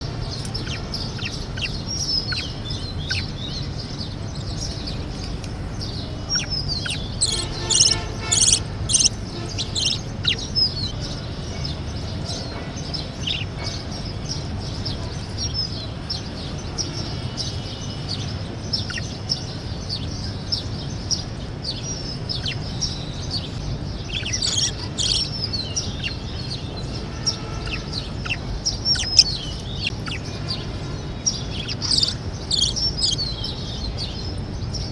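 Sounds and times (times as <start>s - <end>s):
budgerigars chirping and warbling: 0.3s - 34.9s.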